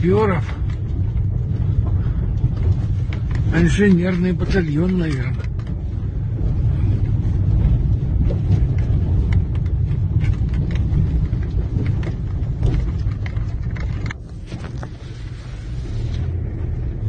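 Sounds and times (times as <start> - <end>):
light clicks and rattles: 0.0 - 15.4
car road and engine rumble: 0.0 - 17.0.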